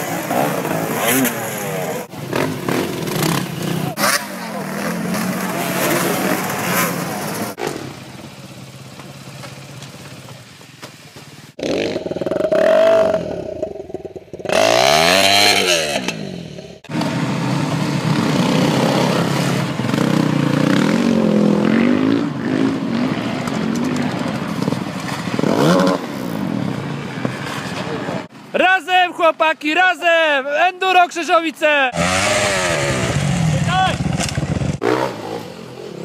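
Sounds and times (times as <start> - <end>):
dirt bike engines revving: 0.0 - 28.3, 31.8 - 36.0.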